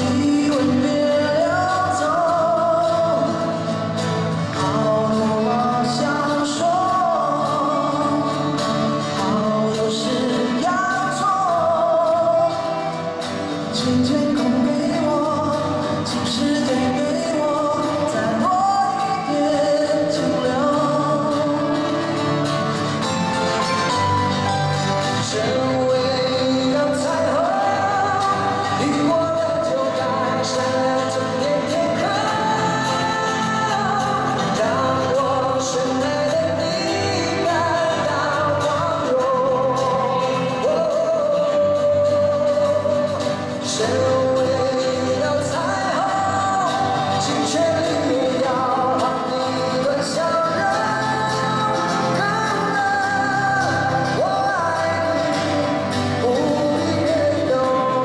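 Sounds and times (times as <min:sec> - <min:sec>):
men singing: 0:00.0 - 0:23.6, 0:24.5 - 0:58.0
acoustic and electric guitars: 0:00.0 - 0:58.0
drums: 0:00.0 - 0:58.0.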